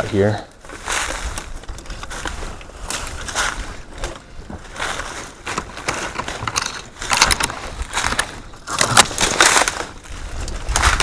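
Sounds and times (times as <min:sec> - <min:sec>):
footsteps crunching on rough ground: 0:00.0 - 0:11.0.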